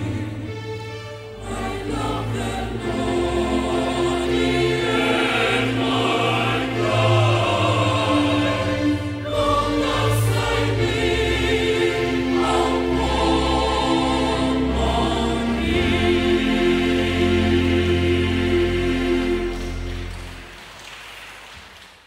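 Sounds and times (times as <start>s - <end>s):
mixed choir singing: 0.0s - 20.5s.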